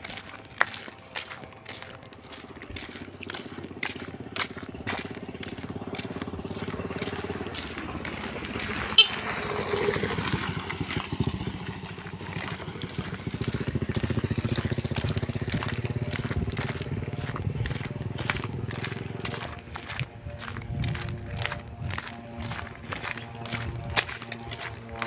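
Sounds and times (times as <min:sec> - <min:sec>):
small motorcycle engine running: 0:00.0 - 0:25.0.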